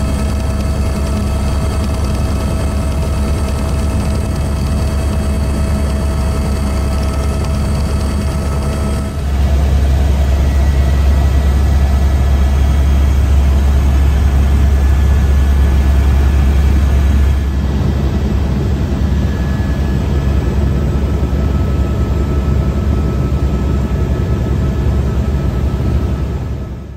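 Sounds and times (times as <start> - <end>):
helicopter engine and rotor drone: 0.0 - 26.9.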